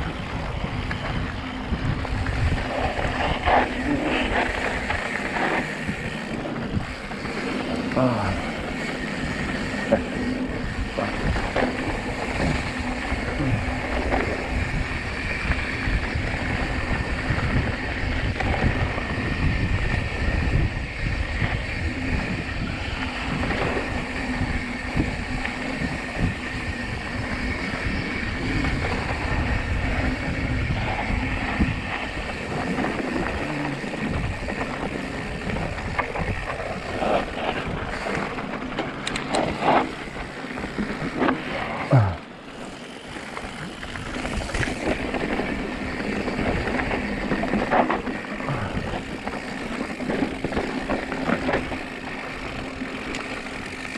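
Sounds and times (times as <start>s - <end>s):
bike tyres rumbling: 0.0s - 53.9s
wind buffeting microphone: 0.0s - 53.9s.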